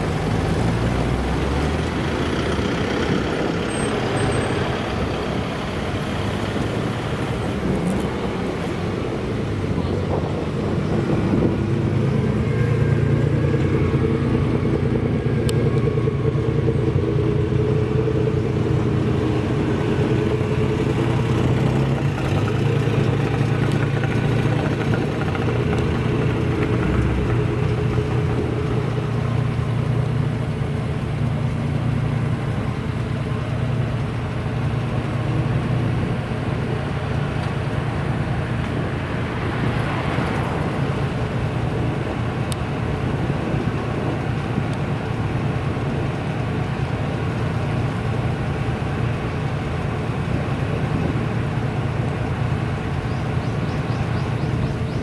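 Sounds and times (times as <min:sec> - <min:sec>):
car engine running steadily: 0:00.0 - 0:55.0.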